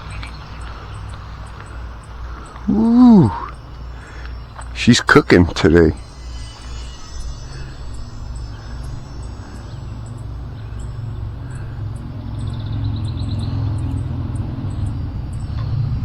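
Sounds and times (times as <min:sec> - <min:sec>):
model plane motor droning: 0:00.0 - 0:16.0.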